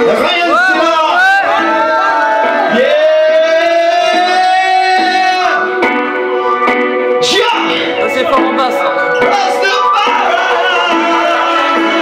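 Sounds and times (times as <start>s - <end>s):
reggae band playing: 0.0s - 12.0s.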